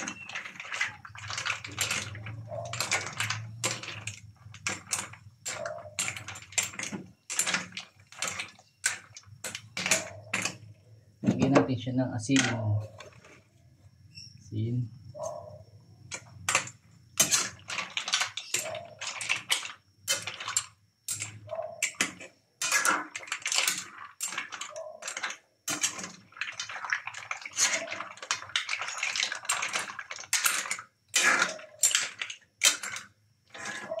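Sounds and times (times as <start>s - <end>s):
mussel shells clinking in a pan: 0.0s - 10.7s, 12.2s - 13.3s, 16.1s - 34.0s
metal spoon stirring: 0.0s - 10.8s, 12.2s - 13.5s, 16.0s - 34.0s.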